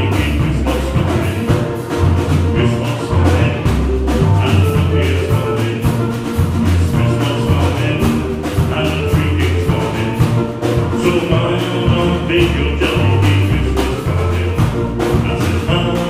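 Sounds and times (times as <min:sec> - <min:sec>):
jazz band playing: 0:00.0 - 0:16.0
saxophone melody: 0:00.0 - 0:16.0.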